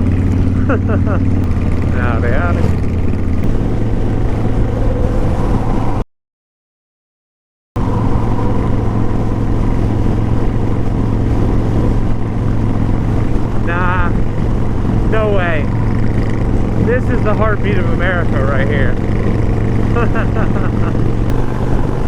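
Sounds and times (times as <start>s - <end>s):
motorcycle engine hum: 0.0s - 6.0s, 7.8s - 22.0s
rushing wind: 0.0s - 6.0s, 7.8s - 22.0s.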